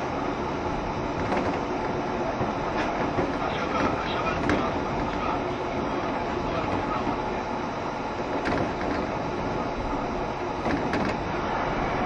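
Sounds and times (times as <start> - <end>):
electric train running noise: 0.0 - 12.0
wheels clicking over rails: 1.1 - 7.3, 8.3 - 11.8.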